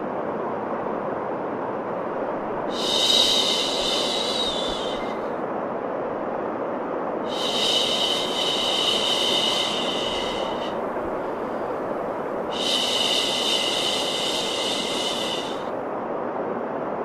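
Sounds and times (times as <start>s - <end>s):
steady white noise: 0.0s - 17.0s.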